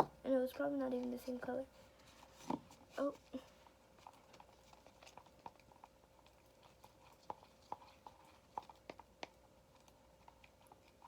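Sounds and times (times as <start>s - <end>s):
stick stirring sticky glue: 0.0s - 11.0s.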